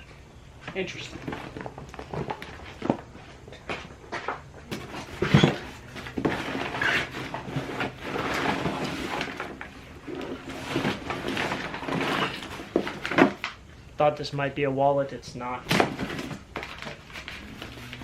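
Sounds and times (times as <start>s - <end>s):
rustling of items pushed around: 0.0s - 13.7s, 15.6s - 18.0s.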